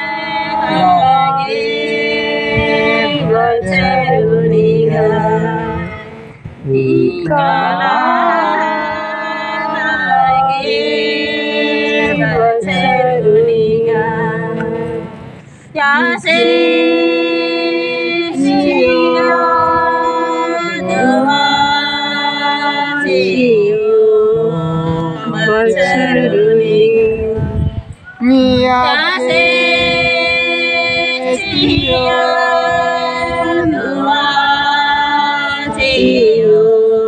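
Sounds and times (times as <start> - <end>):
women singing unaccompanied: 0.0 - 37.0.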